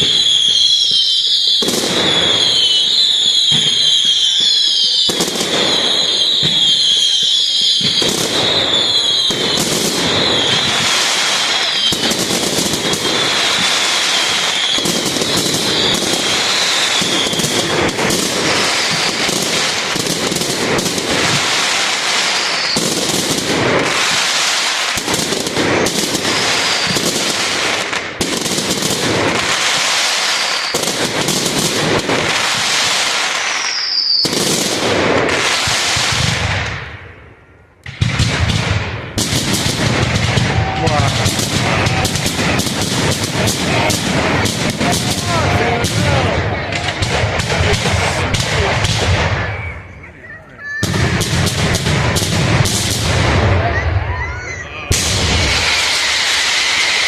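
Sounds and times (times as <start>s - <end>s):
firework crackling: 0.0s - 37.2s, 37.8s - 57.0s
firework bangs: 0.0s - 57.0s
high-pitched whistling fireworks: 0.0s - 57.0s.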